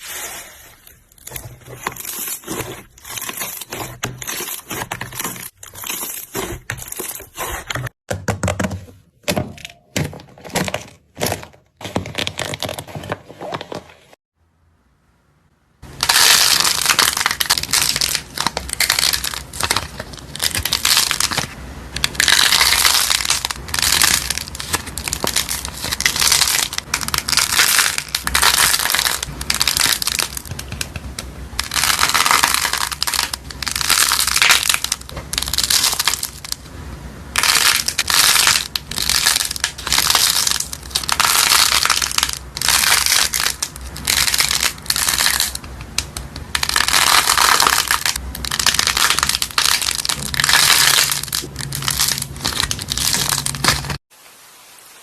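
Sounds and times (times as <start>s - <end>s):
dry soap crunching: 0.1s - 8.0s, 15.8s - 36.7s, 37.3s - 54.0s.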